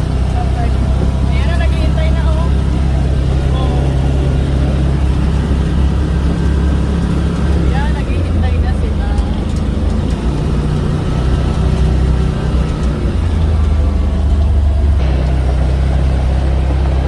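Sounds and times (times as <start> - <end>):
farm vehicle engine running: 0.0 - 17.0.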